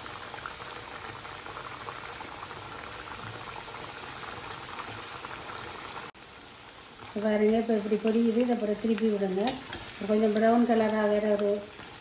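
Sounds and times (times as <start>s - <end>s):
oil sizzling while deep-frying: 0.0s - 12.0s.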